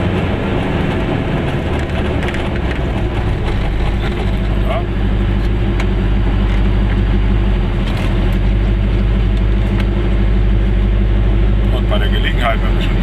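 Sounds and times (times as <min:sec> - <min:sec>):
car engine hum: 0:00.0 - 0:13.0
road noise inside car: 0:00.0 - 0:13.0.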